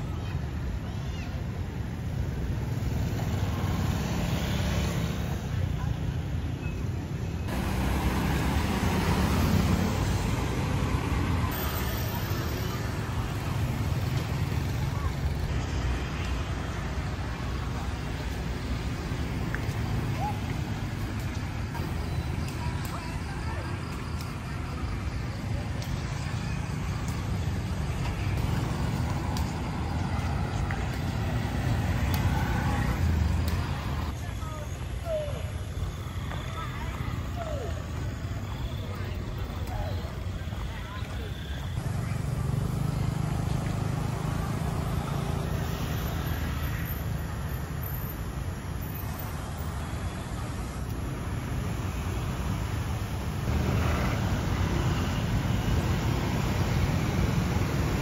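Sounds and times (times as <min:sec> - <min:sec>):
rumble of passing cars: 0:00.0 - 0:58.0.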